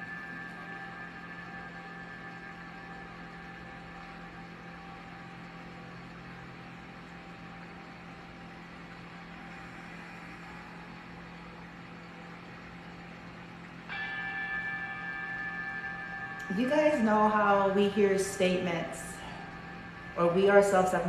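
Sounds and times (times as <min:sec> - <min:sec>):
singing bowl ringing: 0:00.0 - 0:21.0.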